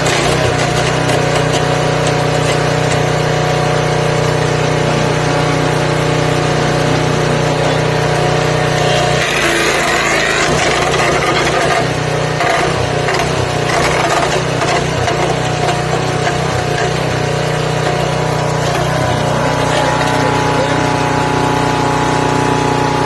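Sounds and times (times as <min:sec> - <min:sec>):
wood chipper engine running: 0:00.0 - 0:23.0.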